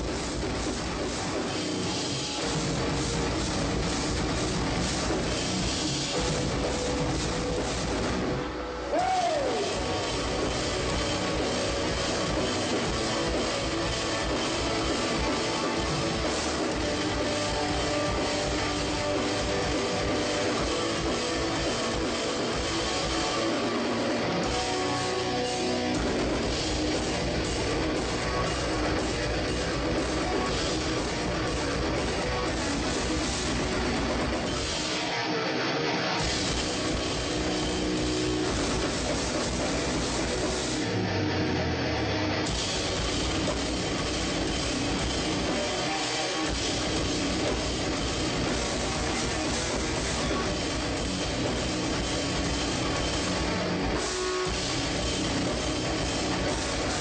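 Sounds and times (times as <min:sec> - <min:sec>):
distorted guitars: 0:00.0 - 0:57.0
drum kit: 0:00.0 - 0:57.0.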